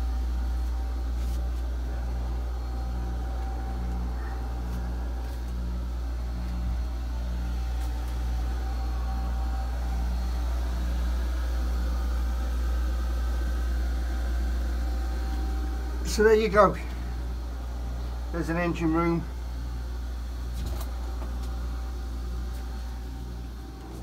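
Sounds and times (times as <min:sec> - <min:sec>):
engine room machinery drone: 0:00.0 - 0:24.0.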